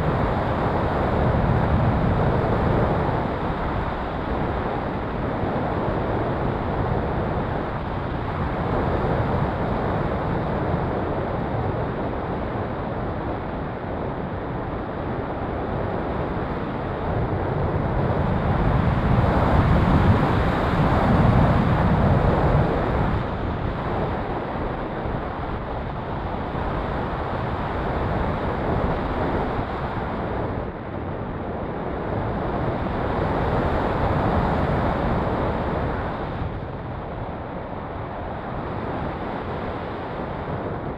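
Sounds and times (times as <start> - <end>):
wind noise rushing: 0.0 - 40.9.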